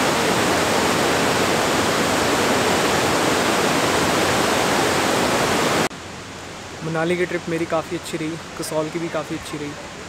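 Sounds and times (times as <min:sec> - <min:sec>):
river rushing over boulders: 0:00.0 - 0:10.0.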